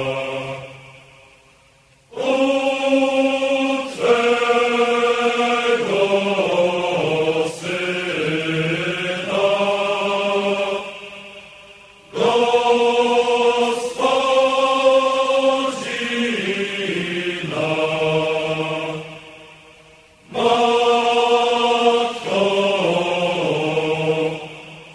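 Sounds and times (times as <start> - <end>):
slow vocal chant: 0.0 - 24.9.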